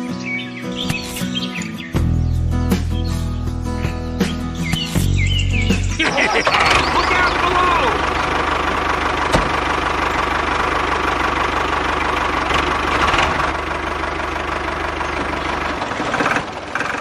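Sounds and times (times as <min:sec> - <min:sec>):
tractor engine idling: 0:00.2 - 0:17.0.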